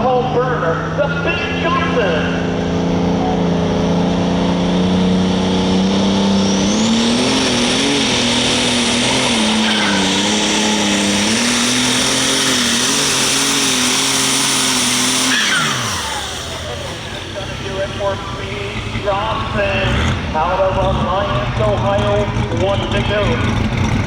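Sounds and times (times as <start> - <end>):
tractor engine at full throttle: 0.0 - 24.0.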